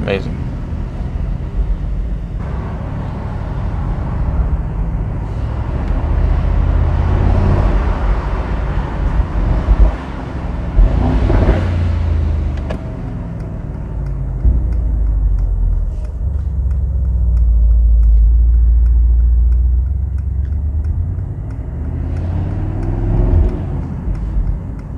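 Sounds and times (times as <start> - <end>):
car engine accelerating: 0.0 - 24.9
exhaust cracks: 0.0 - 24.9.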